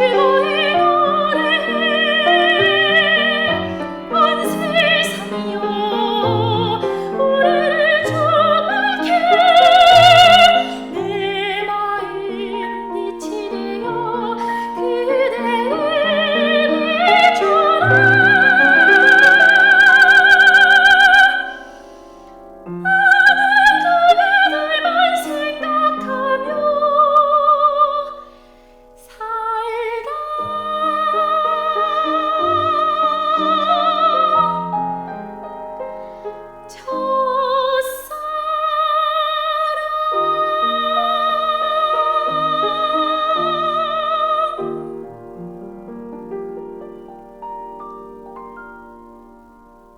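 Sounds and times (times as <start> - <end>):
classical singing with vibrato: 0.0 - 49.9
piano accompaniment: 0.0 - 49.9.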